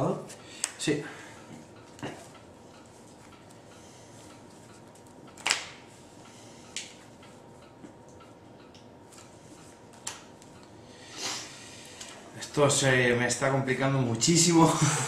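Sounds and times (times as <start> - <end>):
low room hiss: 0.0 - 15.0.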